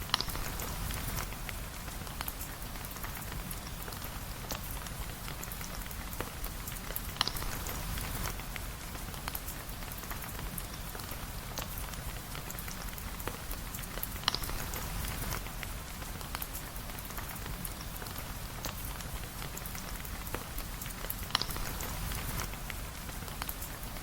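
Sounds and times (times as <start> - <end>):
steady rain: 0.0 - 24.0
wood fire crackling and popping: 0.0 - 24.0.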